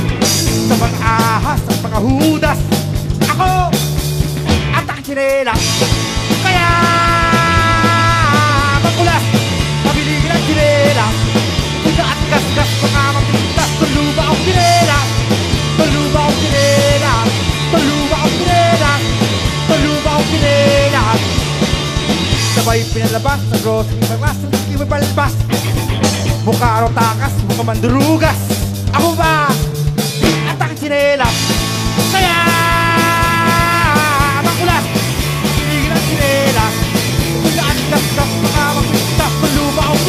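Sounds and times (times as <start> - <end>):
rock music: 0.0 - 40.0.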